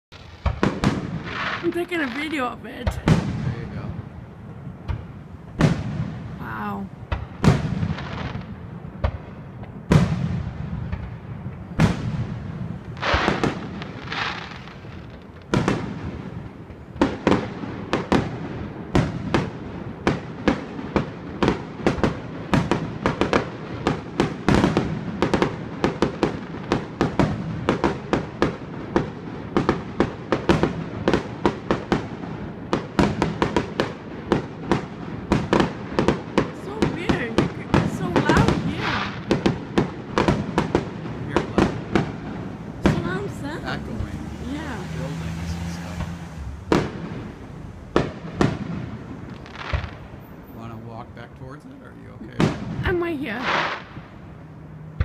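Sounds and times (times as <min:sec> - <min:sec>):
fireworks booming: 0:00.1 - 0:55.0
fireworks crackling pops: 0:00.1 - 0:55.0.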